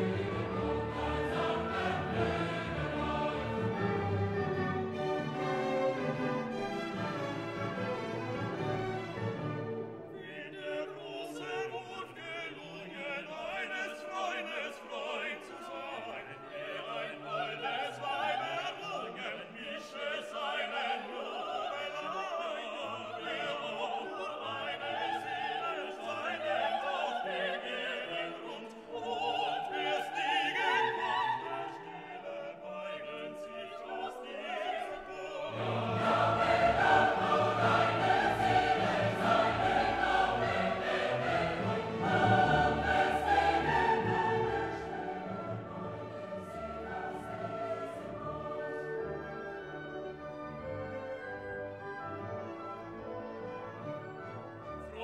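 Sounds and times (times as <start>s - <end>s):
operatic singing with orchestra: 0.0s - 55.0s.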